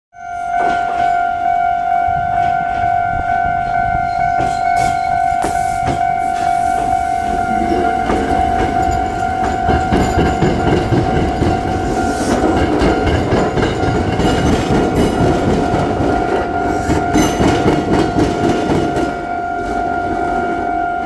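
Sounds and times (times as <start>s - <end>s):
level crossing bell ringing: 0.2s - 21.0s
train wheels rumbling: 0.6s - 20.7s.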